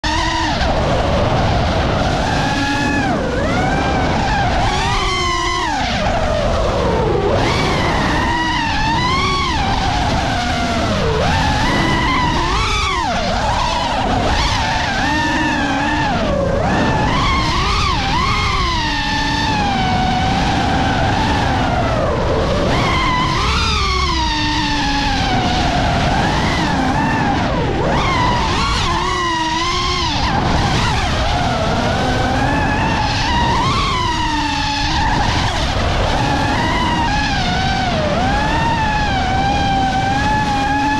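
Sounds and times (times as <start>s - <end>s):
drone motors whining: 0.0s - 40.9s
low rumble of wind: 0.0s - 40.9s.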